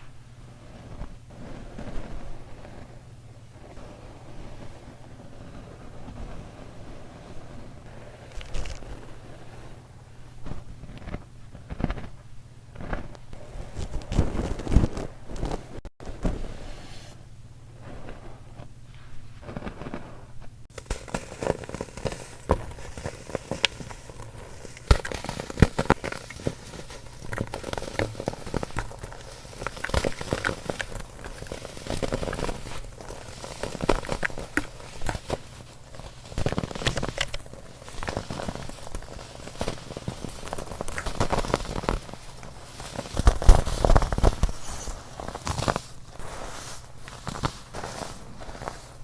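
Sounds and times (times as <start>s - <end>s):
baking soda crunching: 3.6s - 15.6s, 17.8s - 49.0s.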